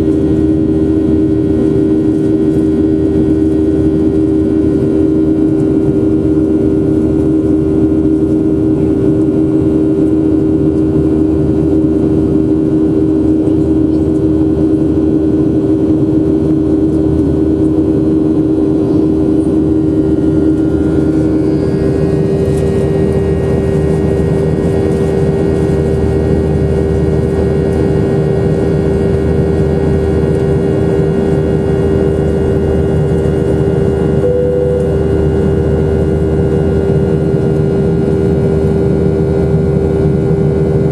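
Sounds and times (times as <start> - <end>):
high-pitched engine whines: 0.0 - 40.9
jet engines droning: 0.0 - 40.9.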